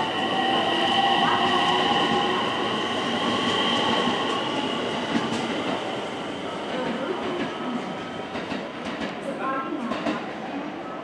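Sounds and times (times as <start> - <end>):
train wheels rumbling on rails: 0.0 - 10.6
high steady train whine: 0.0 - 11.0.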